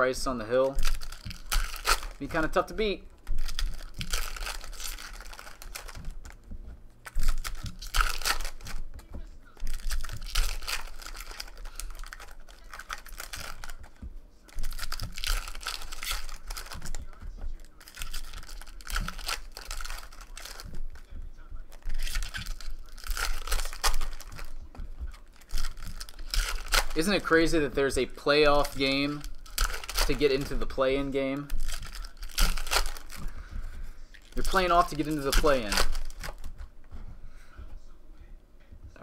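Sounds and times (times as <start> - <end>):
foil wrappers tearing and crinkling: 0.0 - 6.4, 7.0 - 36.7.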